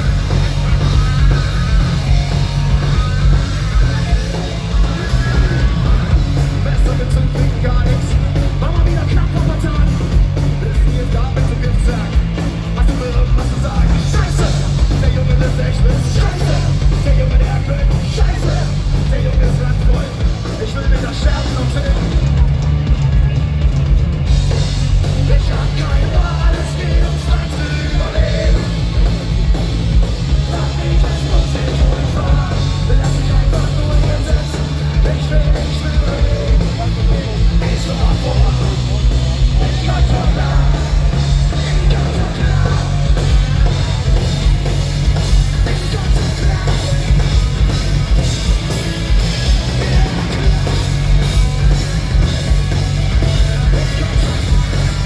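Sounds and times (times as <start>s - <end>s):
drums: 0.0s - 55.0s
punk rock band playing live: 0.0s - 55.0s
yelled vocals: 0.0s - 55.0s.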